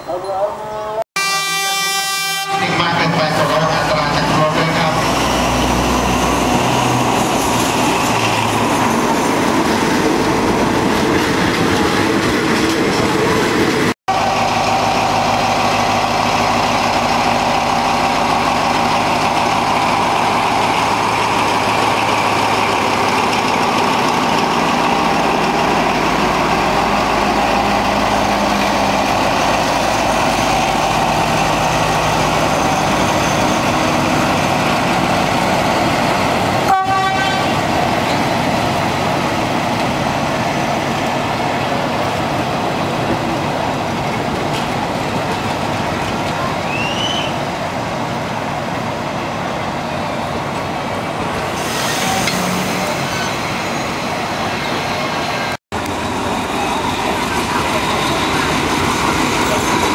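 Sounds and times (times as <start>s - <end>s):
diesel locomotive running: 0.0s - 59.9s
train rumbling on rails: 2.1s - 59.9s.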